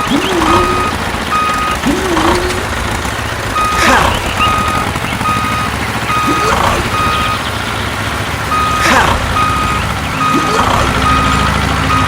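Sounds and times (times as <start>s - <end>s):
engine rumbling: 0.0s - 12.0s
reversing alarm beeping: 0.0s - 12.0s.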